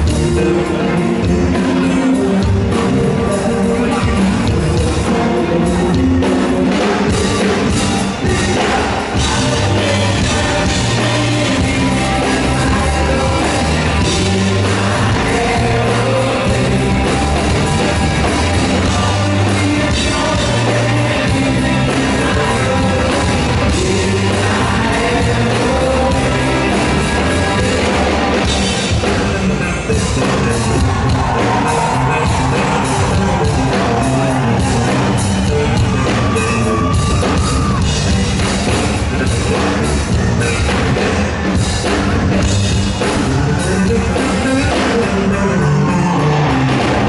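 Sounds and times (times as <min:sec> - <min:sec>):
bass line: 0:00.0 - 0:47.0
live funk rock band: 0:00.0 - 0:47.0
person singing: 0:00.0 - 0:47.0.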